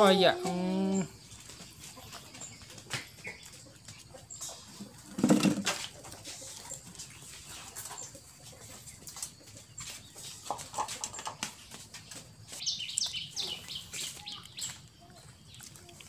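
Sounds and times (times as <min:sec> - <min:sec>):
puppies nursing clicks and snuffles: 0:01.2 - 0:16.0.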